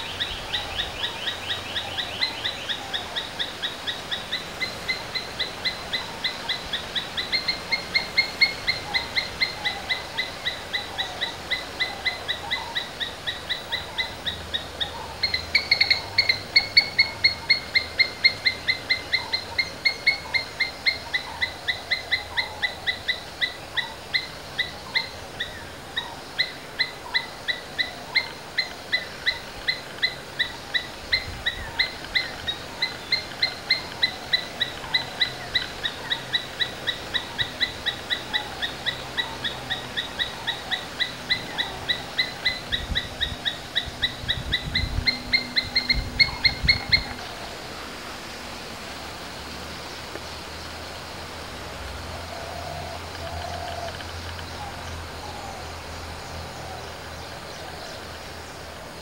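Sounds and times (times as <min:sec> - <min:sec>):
squirrel chirping: 0:00.0 - 0:47.4.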